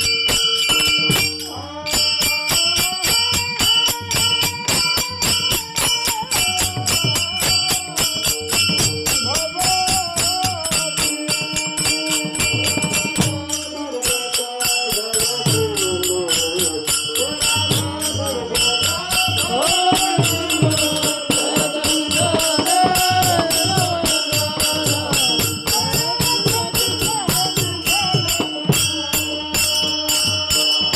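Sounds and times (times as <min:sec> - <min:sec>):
jingling metal percussion: 0:00.0 - 0:30.9
person singing devotional melody: 0:00.0 - 0:30.9.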